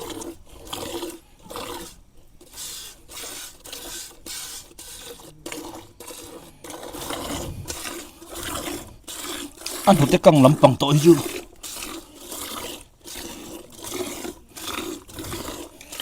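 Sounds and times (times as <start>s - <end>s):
milk squirting into metal pail: 0.0s - 16.0s.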